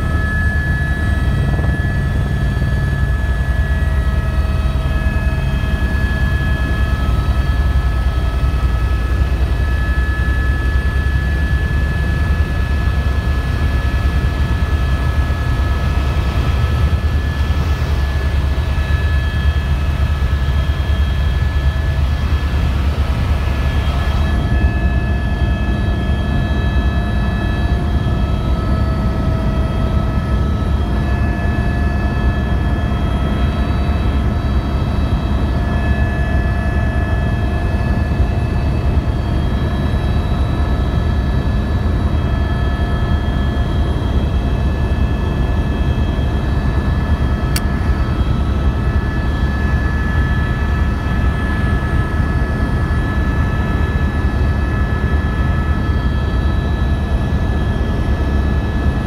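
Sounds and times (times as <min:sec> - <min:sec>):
helicopter rotor and engine rumble: 0:00.0 - 0:59.0
high whine of several tones: 0:00.0 - 0:59.0.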